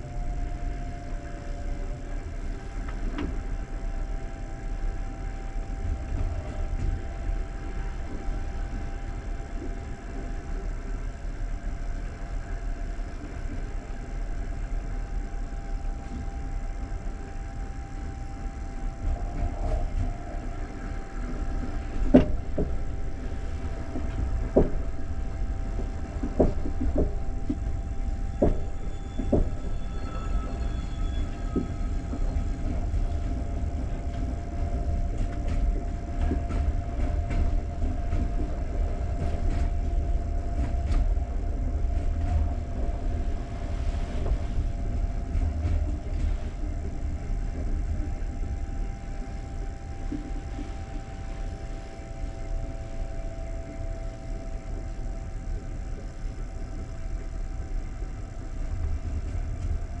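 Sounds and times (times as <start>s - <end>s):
faint train whine: 0.0s - 60.0s
train wheels rumbling on track: 0.0s - 60.0s.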